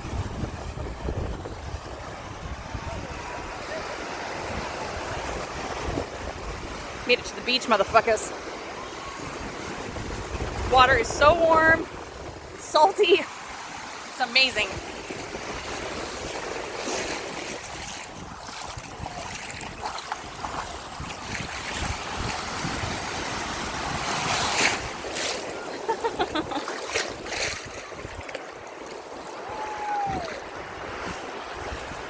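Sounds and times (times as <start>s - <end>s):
ocean surf splashing: 0.0s - 32.0s
wind buffeting microphone: 0.0s - 32.0s.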